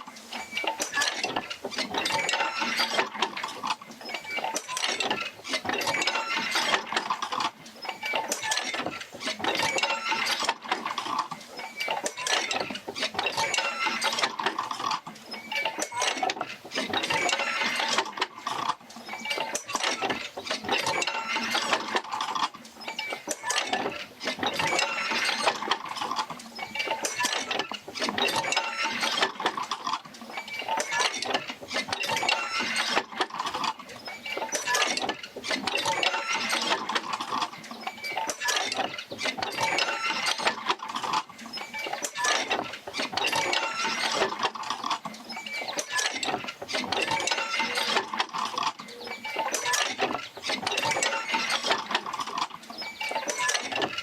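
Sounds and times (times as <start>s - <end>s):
pump wheel creaking and clinking: 0.0s - 54.0s.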